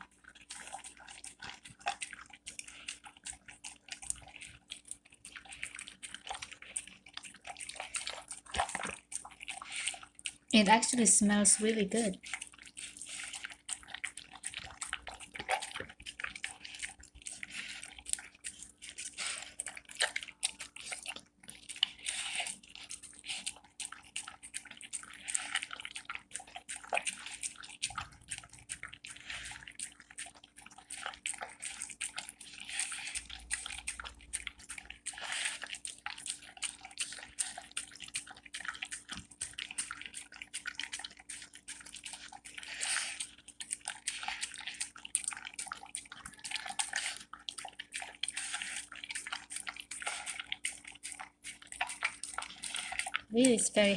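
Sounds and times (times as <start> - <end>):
dog eating wet food: 0.0 - 53.9
dog licking and smacking: 0.0 - 53.9.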